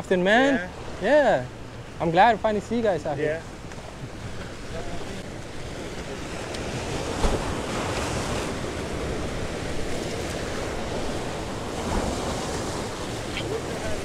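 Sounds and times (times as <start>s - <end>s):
waves washing against jetty: 0.0s - 14.0s.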